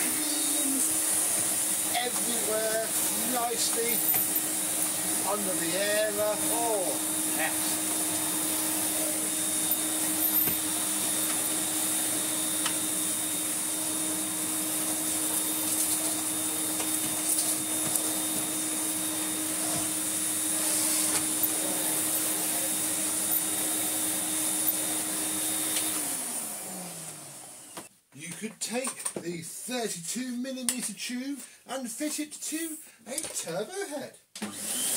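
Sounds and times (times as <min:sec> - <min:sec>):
vacuum cleaner motor hum: 0:00.0 - 0:27.9, 0:34.4 - 0:34.9.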